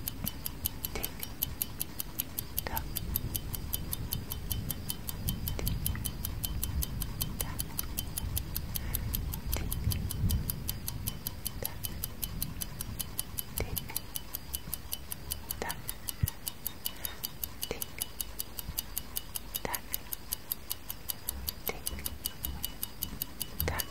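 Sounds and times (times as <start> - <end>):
clock ticking: 0.0 - 23.9.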